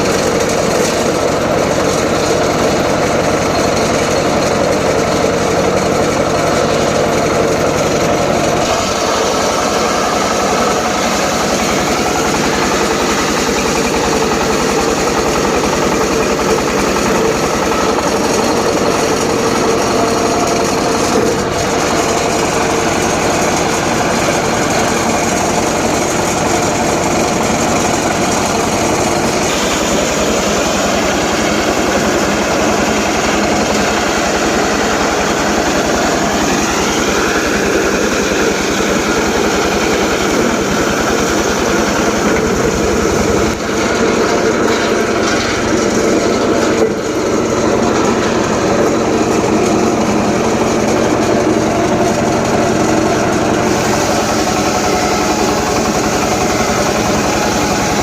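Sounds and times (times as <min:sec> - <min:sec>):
circular saw ripping wood: 0:00.0 - 0:58.0.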